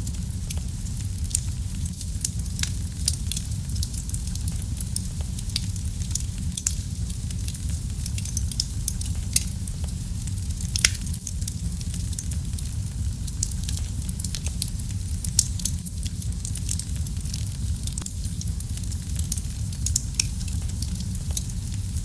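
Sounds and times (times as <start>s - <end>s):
burning logs crackling and popping: 0.0s - 22.0s
low rumble of flames: 0.0s - 22.0s.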